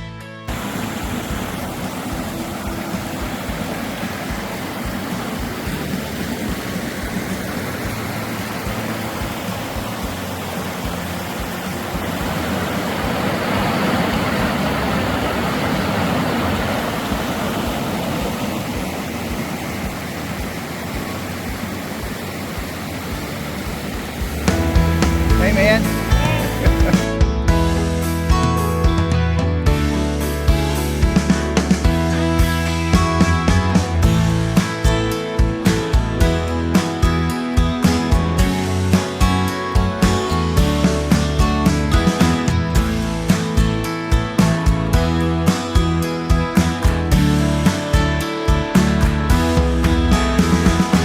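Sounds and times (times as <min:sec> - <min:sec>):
flowing water: 0:00.5 - 0:51.0.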